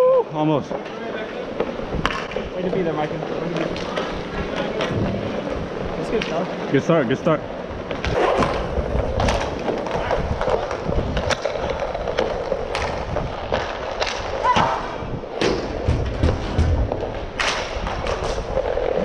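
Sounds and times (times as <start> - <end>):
skate wheels rolling on tiles: 0.0 - 19.0
hockey sticks and puck clacking: 0.6 - 6.8, 7.8 - 19.0.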